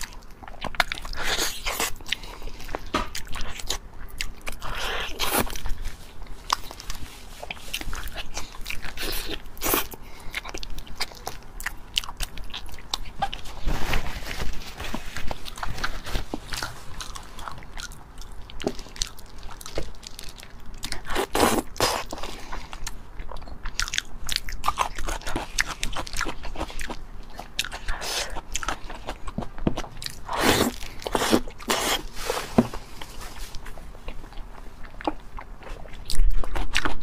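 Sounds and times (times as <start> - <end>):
close chewing and biting: 0.0 - 37.0.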